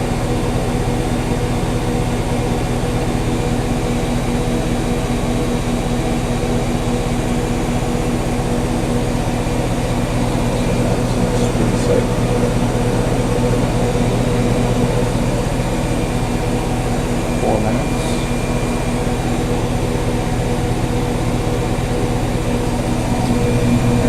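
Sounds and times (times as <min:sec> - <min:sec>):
washing machine drum spinning: 0:00.0 - 0:24.0.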